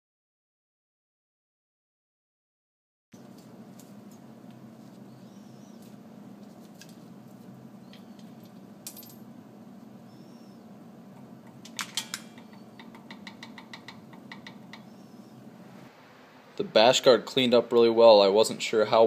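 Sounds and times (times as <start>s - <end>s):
steady low hum: 3.2s - 19.0s.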